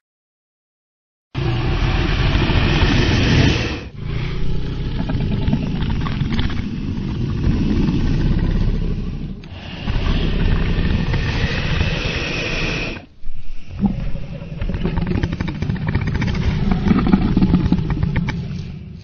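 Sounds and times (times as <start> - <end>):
rough rumbling monster sound: 1.4 - 19.0.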